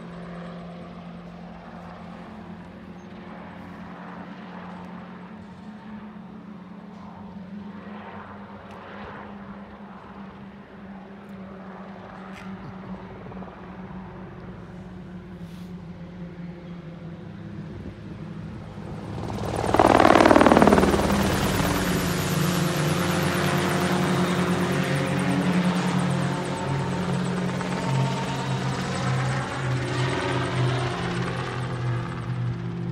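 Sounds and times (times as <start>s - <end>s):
helicopter engine and rotor drone: 0.0s - 32.9s.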